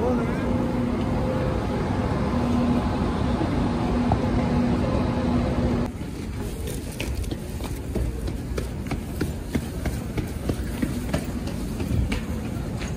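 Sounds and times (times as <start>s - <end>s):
railway station rumble and hum: 0.0s - 12.9s.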